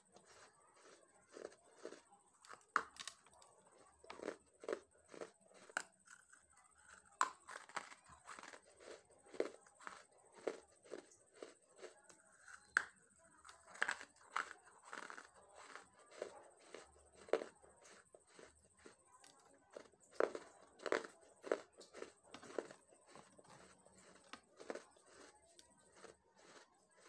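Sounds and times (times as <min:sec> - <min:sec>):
clay lumps crunching in mouth: 0:00.0 - 0:27.0.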